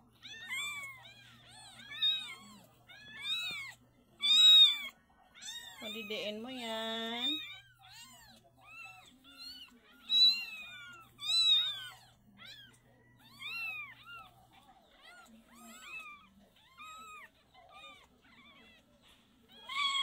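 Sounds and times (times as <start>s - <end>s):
kittens mewing: 0.0s - 20.0s.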